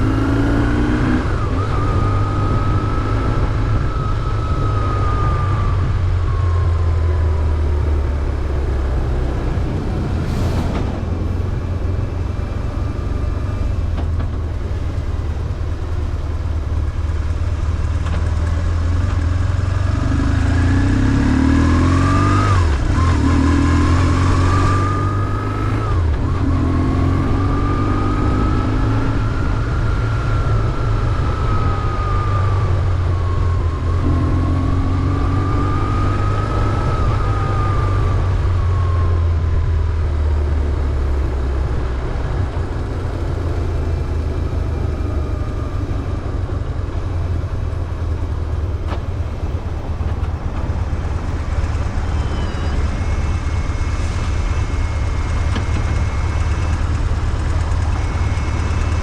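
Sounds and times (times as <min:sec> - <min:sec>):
motorcycle engine running: 0:11.0 - 0:59.0.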